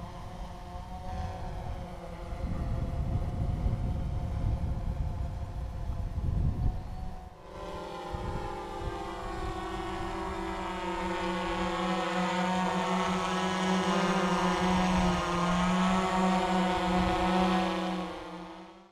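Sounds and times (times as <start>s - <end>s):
drone propellers buzzing: 0.0s - 18.9s.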